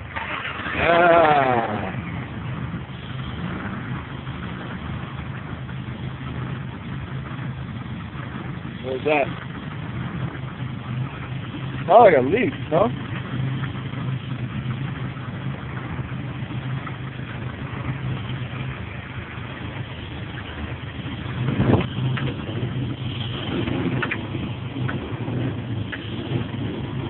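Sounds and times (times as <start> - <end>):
car engine running with knock: 0.0 - 27.0
rush of noise: 0.0 - 27.0.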